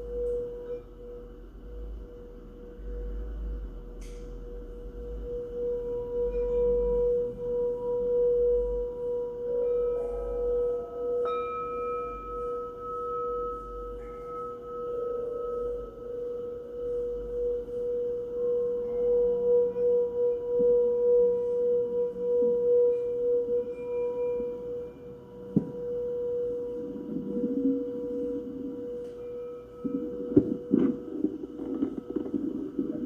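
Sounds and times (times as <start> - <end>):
higher singing bowls ringing: 0.0 - 33.0
low singing bowl tone: 0.0 - 33.0.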